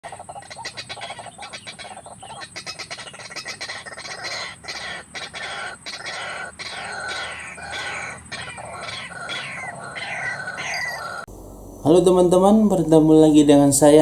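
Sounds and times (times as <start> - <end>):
waterhens calling: 0.0 - 14.0.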